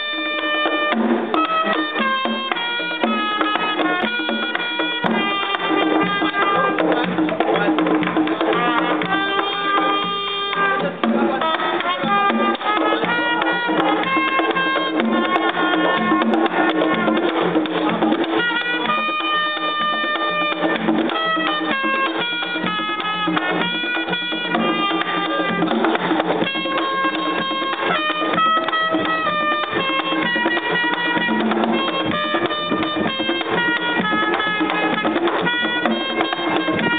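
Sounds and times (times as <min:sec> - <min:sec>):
drums and hand percussion: 0:00.0 - 0:36.9
held melody: 0:00.0 - 0:36.9.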